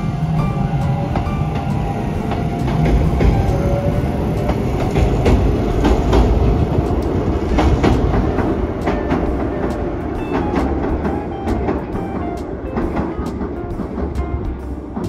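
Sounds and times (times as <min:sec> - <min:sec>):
train rumble: 0:00.0 - 0:15.0
train wheels clicking over rail joints: 0:00.0 - 0:15.0.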